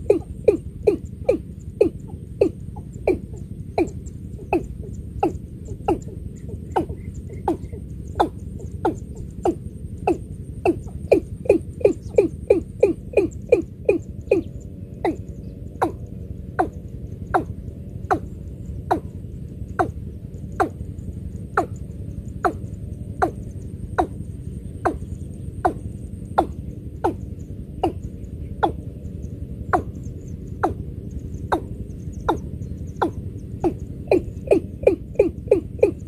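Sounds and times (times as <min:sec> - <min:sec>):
bird calling descending notes: 0:00.0 - 0:36.0
steady low rumble: 0:00.0 - 0:36.0.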